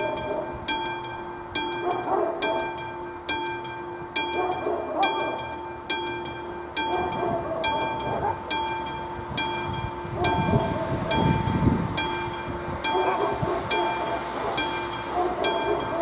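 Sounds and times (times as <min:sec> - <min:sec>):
level crossing bell ringing: 0:00.0 - 0:16.0.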